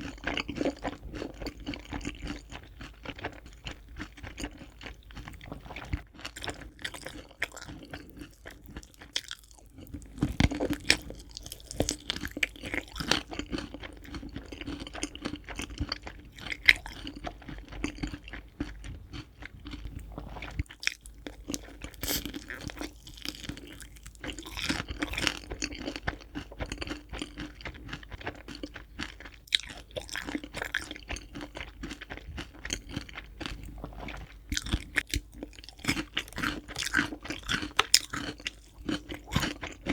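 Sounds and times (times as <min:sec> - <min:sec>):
chewing crispy fried chicken: 0:00.0 - 0:39.9.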